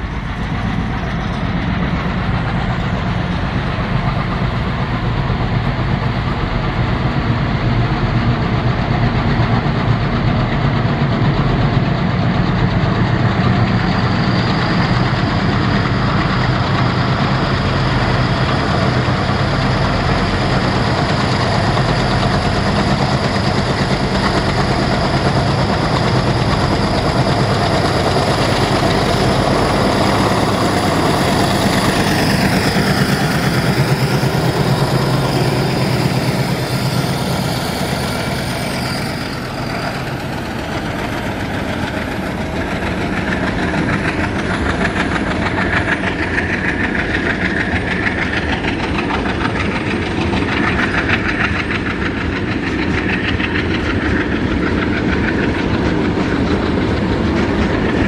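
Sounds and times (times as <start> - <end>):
diesel locomotive engines chugging: 0.0 - 58.0.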